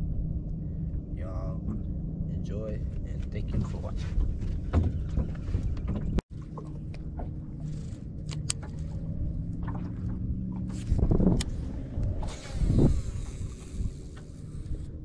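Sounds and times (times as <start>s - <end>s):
boat motor hum: 0.0s - 15.0s.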